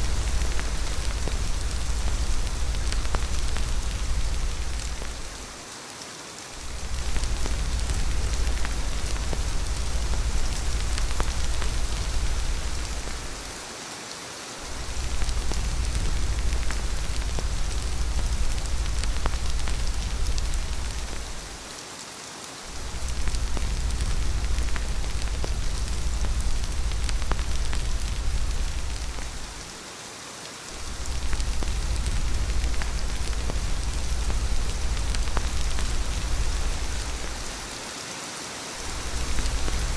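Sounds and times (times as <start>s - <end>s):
deep low rumble: 0.0s - 5.5s, 6.6s - 13.6s, 14.6s - 21.6s, 22.7s - 29.7s, 30.8s - 37.7s, 38.8s - 39.9s
steady rain: 0.0s - 39.9s.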